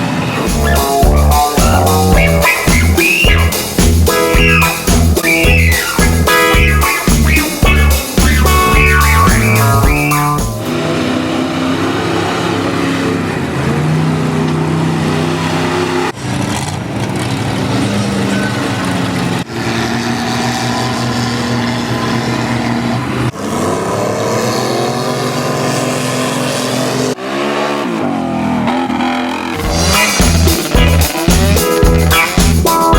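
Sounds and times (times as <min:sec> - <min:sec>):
off-road engines revving: 0:00.0 - 0:32.9.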